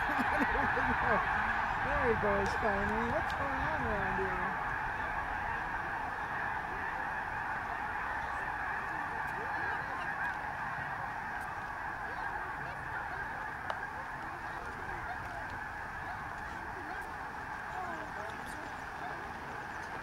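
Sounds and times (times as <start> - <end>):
flock of waterbirds calling: 0.0 - 20.0.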